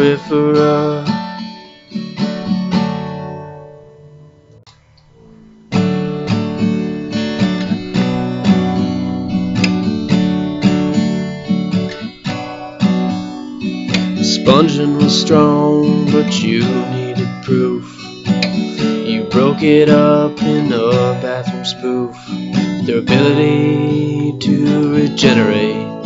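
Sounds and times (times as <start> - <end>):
acoustic guitar chords: 0.0 - 26.0.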